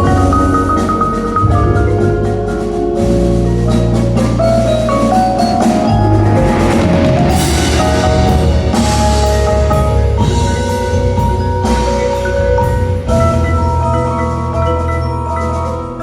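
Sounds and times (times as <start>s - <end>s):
sustained low bass: 0.0s - 14.5s
marimbas playing melody: 0.0s - 16.0s.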